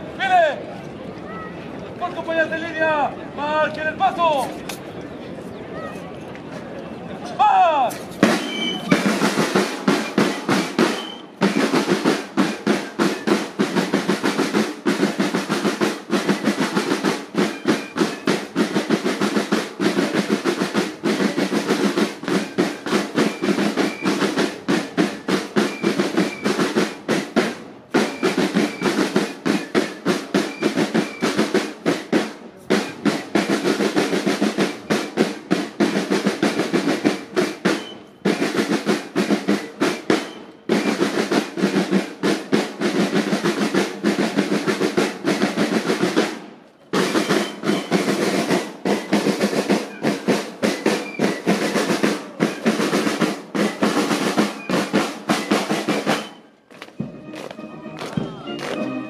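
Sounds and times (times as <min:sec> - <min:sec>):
snare drum line playing cadence: 0:07.8 - 0:59.0.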